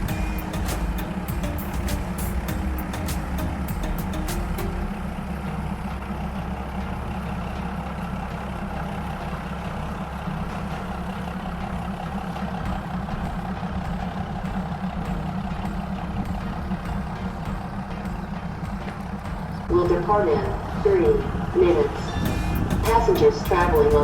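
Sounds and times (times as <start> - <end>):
locomotive engine idling: 0.0 - 24.0.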